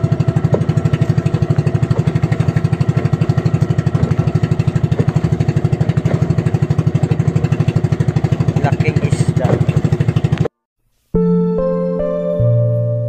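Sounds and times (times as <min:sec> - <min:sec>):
small engine running: 0:00.0 - 0:10.5.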